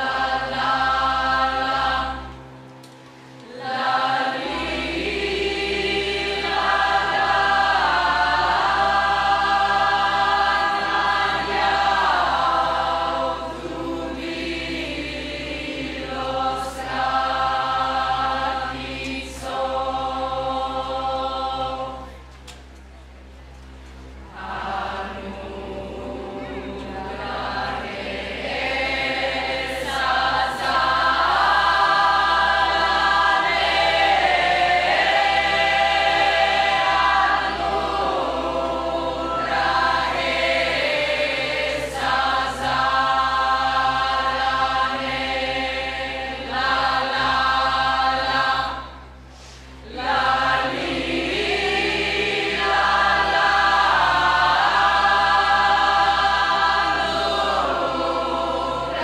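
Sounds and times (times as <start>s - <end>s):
choir singing folk tune: 0.0s - 59.0s.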